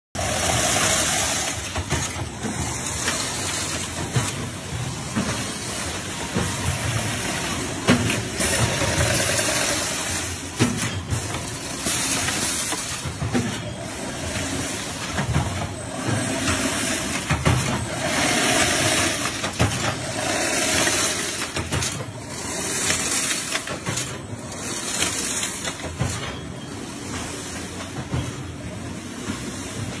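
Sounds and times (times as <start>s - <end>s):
weaving machines clattering: 0.2s - 30.0s.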